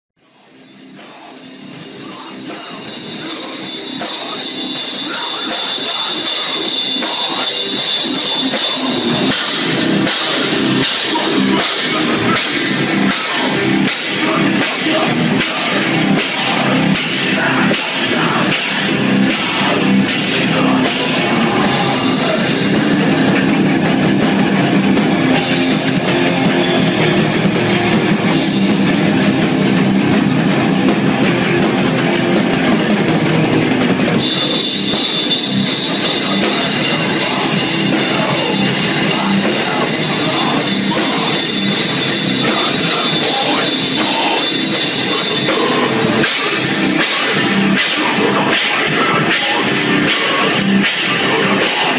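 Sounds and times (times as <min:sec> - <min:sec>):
hardcore metal band playing: 0:00.2 - 0:51.9.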